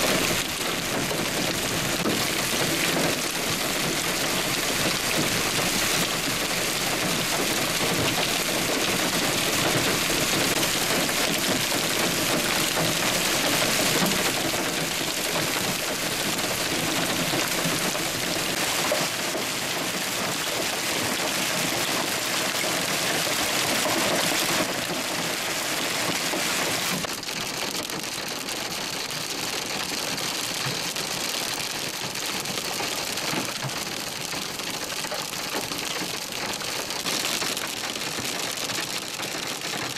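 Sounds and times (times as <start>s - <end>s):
heavy rain and hail pouring: 0.0s - 39.9s.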